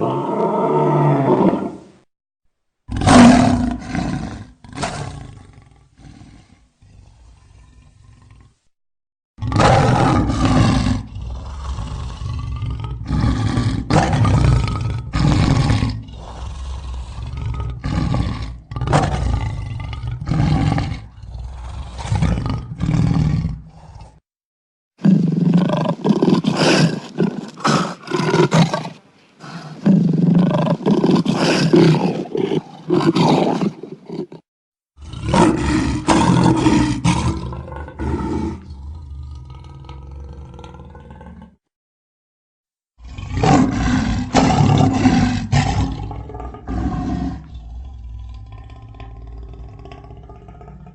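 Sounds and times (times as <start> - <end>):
lion roaring: 0.0 - 1.9, 2.9 - 8.6, 9.4 - 24.2, 25.0 - 34.4, 35.0 - 41.6, 43.0 - 50.9.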